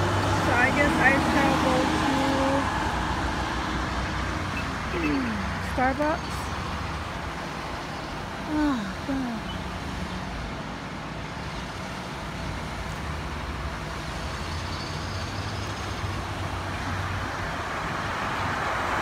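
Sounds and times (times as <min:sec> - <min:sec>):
car and truck engines: 0:00.0 - 0:19.0.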